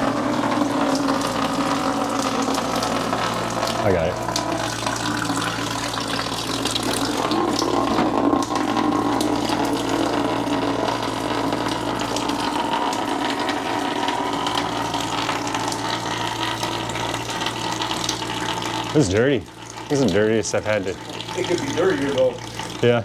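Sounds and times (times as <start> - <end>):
water splashing into a bucket: 0.0 - 23.0.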